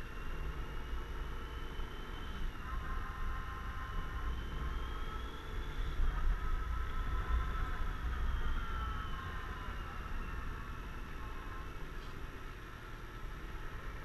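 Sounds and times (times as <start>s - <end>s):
faint whine: 0.0s - 14.0s
wind rumble on microphone: 0.0s - 14.0s.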